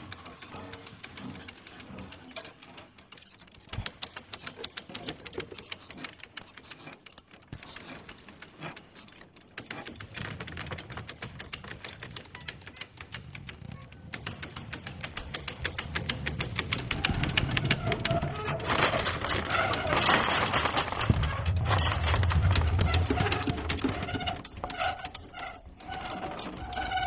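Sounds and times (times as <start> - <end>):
rapid light clicking and rattling: 0.0 - 27.0.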